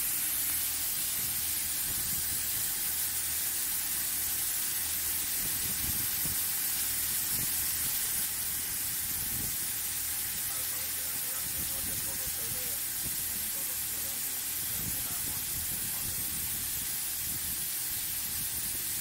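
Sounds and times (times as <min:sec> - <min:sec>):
milling machine hiss: 0:00.0 - 0:19.0.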